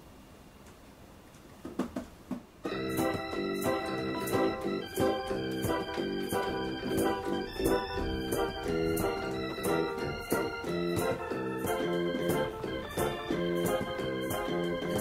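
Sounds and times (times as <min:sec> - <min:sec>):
cajon: 0:01.6 - 0:15.0
organ keyboard chord stabs: 0:02.6 - 0:15.0.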